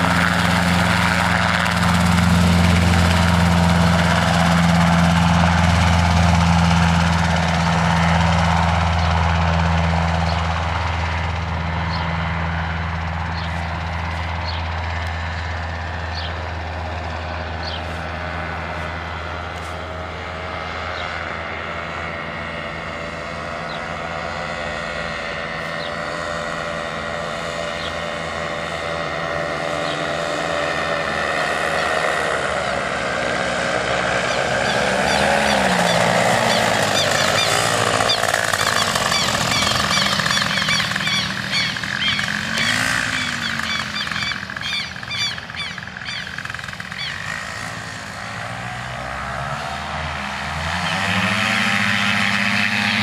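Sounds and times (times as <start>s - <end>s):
ultralight engine and propeller droning: 0.0s - 53.0s.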